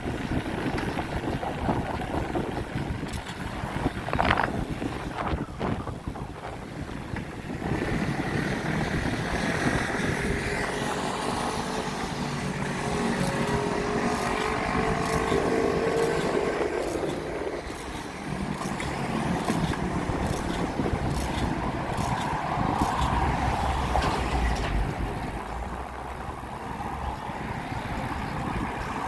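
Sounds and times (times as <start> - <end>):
steady road noise: 0.0 - 29.0
vehicles passing: 0.0 - 29.0.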